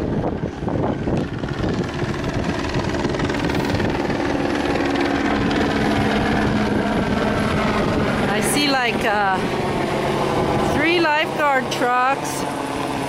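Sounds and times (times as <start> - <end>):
helicopter rotor drone: 0.0 - 13.0.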